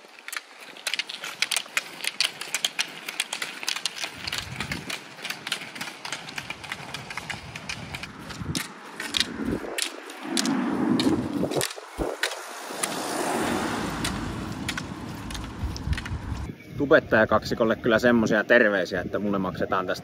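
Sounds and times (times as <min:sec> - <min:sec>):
roller ski wheels hissing: 0:00.0 - 0:16.5
ski pole tips clicking on road: 0:00.0 - 0:16.5.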